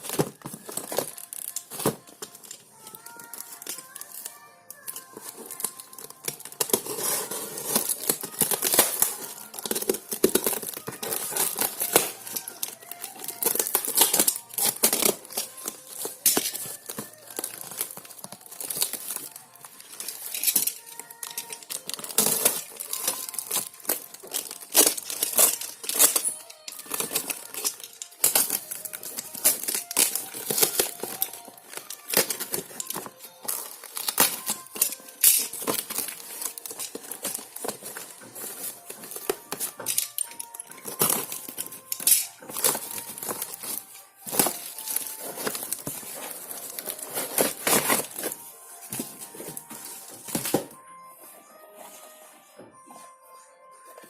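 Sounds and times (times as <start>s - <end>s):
plastic packaging crinkling: 0.0s - 50.8s.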